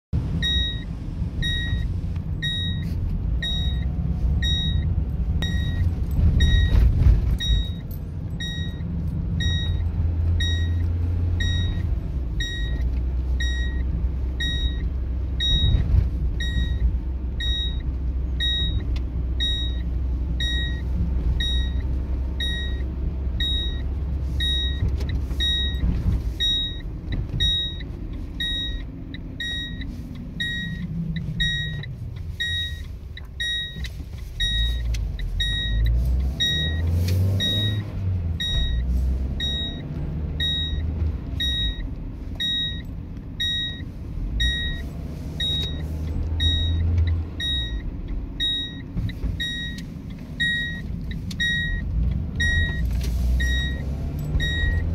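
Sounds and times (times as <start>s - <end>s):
car engine: 0.0s - 54.9s
road rumble: 0.0s - 54.9s
seat belt reminder beeps: 0.4s - 54.9s.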